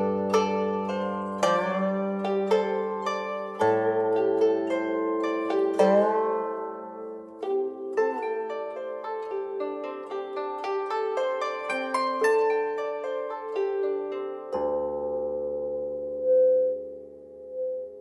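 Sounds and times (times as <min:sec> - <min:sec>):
plucked zither music: 0:00.0 - 0:18.0.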